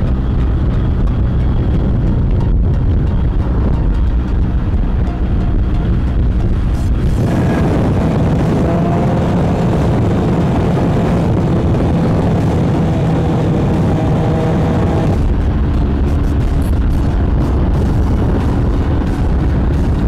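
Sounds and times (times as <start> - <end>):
motorcycle engine at speed: 0.0 - 20.0
wind rushing: 0.0 - 20.0.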